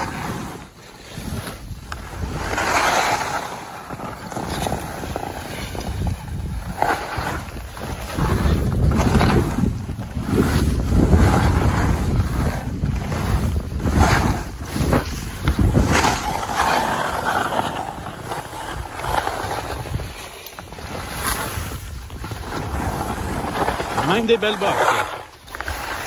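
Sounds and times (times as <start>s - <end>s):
skis scraping over packed snow: 0.0s - 26.0s
wind rumbling on microphone: 0.0s - 26.0s.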